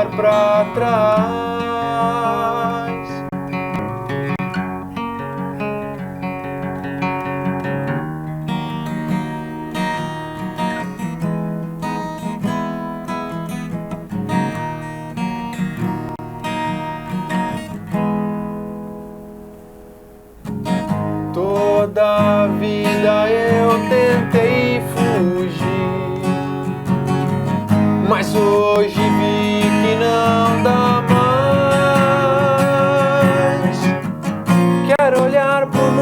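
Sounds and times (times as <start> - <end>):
acoustic guitars playing: 0.0 - 36.0.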